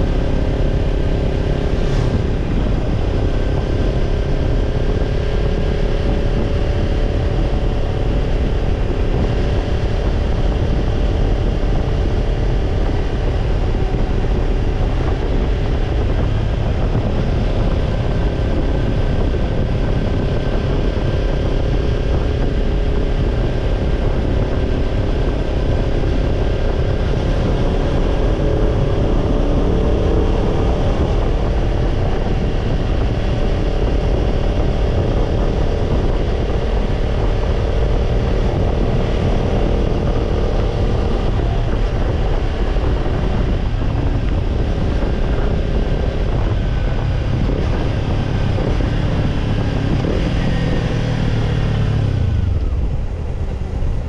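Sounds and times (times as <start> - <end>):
motorcycle engine cruising: 0.0 - 54.0
wind noise: 0.0 - 54.0.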